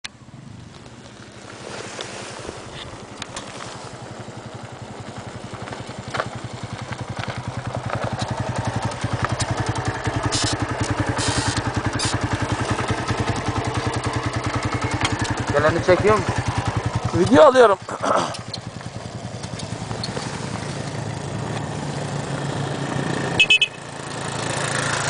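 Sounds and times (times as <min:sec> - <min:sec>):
small motorcycle engine running: 0:00.2 - 0:25.0.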